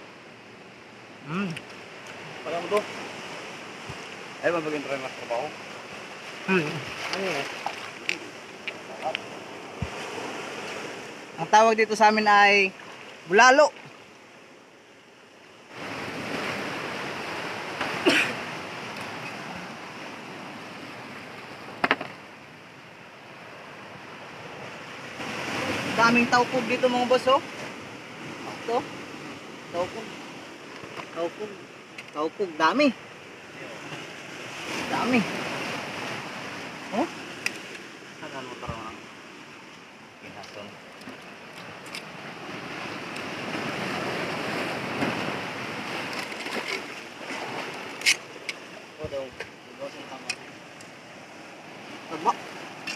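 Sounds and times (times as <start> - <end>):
surf washing on rocky shore: 0.0 - 52.9.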